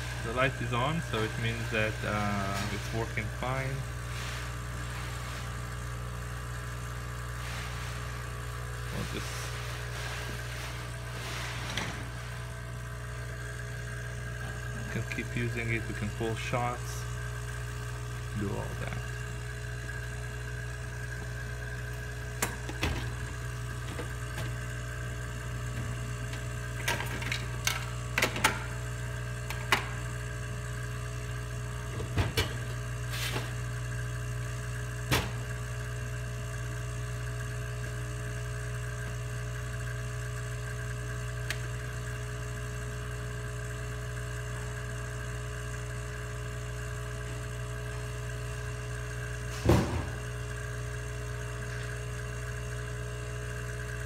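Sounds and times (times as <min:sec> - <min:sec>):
espresso machine humming: 0:00.0 - 0:54.0.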